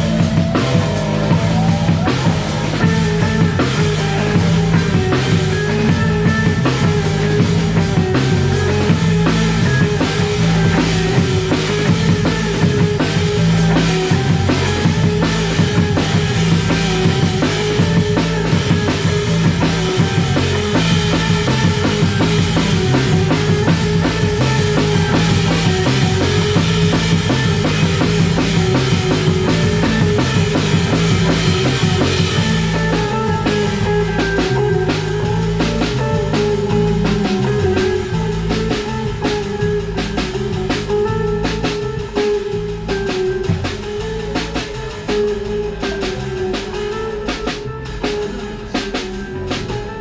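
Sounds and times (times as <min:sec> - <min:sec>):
drum hits: 0:00.0 - 0:50.0
electric bass line: 0:00.0 - 0:50.0
electric guitar: 0:00.0 - 0:50.0.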